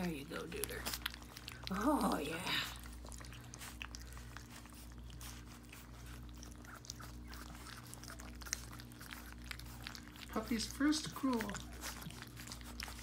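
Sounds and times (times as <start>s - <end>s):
puppies lapping and slurping: 0.0s - 13.0s
steady low hum: 0.0s - 13.0s.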